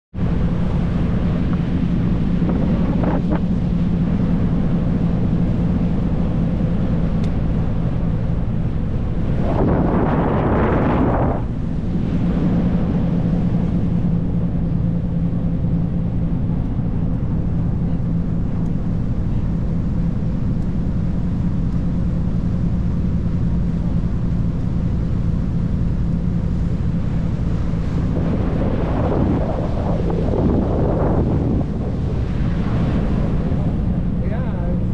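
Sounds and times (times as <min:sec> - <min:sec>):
engine drone: 0:00.1 - 0:34.9
water noise: 0:00.1 - 0:34.9
wind buffeting microphone: 0:00.1 - 0:34.9.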